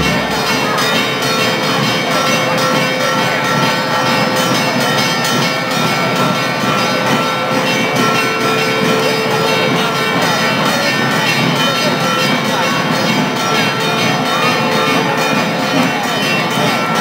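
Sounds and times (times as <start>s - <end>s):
church bells ringing: 0.0s - 17.0s
crowd noise: 0.0s - 17.0s.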